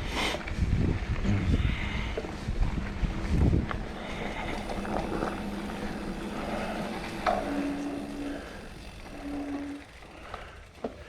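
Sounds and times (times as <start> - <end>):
bike rattling: 0.0 - 11.0
bike tyres rolling on dirt: 0.0 - 11.0
short low hums: 1.0 - 10.8.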